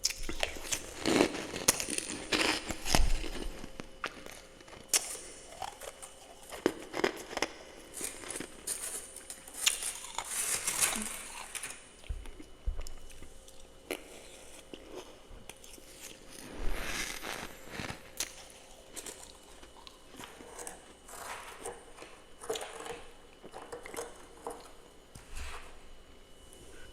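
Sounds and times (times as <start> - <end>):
person chewing ice crunching: 0.0 - 24.8.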